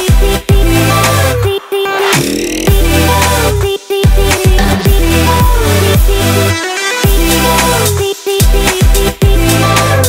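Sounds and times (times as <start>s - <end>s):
electronic dance music: 0.0s - 9.9s.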